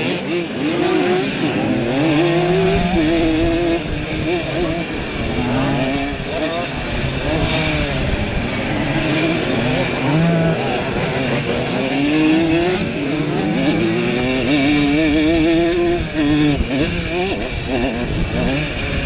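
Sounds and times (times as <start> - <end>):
moped engine revving hard: 0.0 - 19.0
other two-stroke engines: 0.0 - 19.0.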